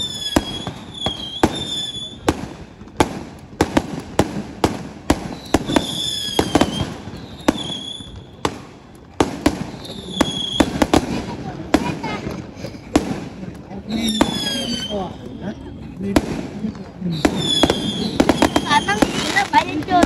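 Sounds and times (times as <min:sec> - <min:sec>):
fireworks high whistling: 0:00.0 - 0:12.3, 0:13.0 - 0:20.0
fireworks bangs and cracks: 0:00.0 - 0:20.0.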